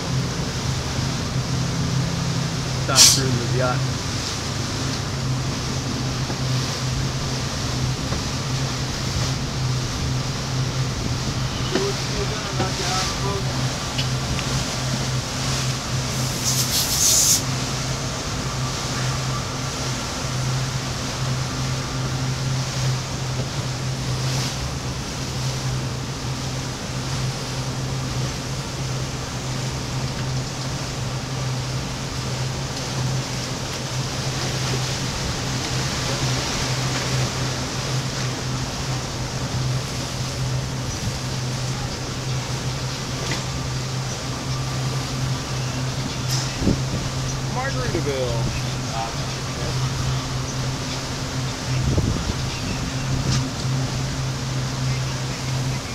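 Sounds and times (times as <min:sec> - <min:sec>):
boat engine humming: 0:00.0 - 0:55.9
water splashing: 0:00.0 - 0:55.9.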